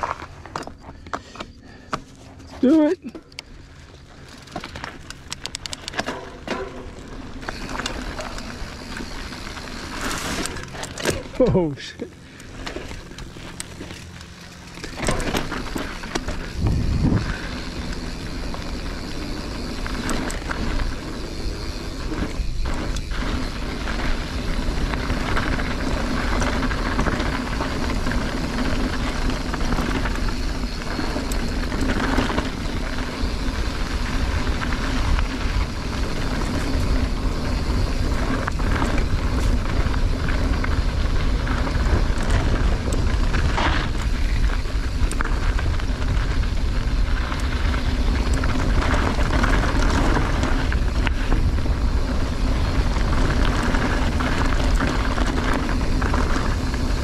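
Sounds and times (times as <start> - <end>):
bike clicks and rattles: 0.0 - 57.0
tyres on loose dirt and gravel: 0.0 - 57.0
wind rumbling on microphone: 3.2 - 57.0.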